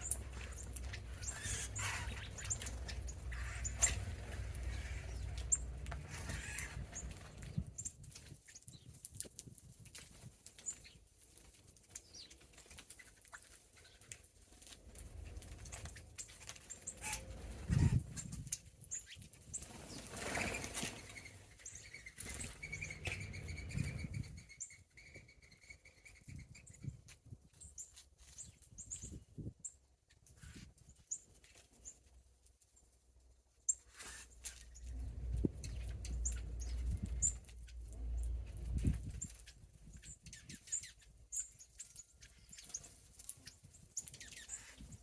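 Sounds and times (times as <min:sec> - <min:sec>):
wings fluttering: 0:00.0 - 0:29.5, 0:33.7 - 0:45.0.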